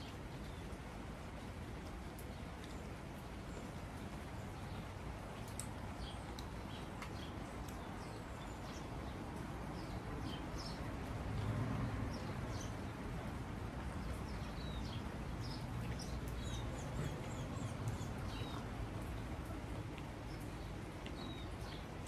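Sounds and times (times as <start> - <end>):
small birds chirping: 1.8 - 22.0.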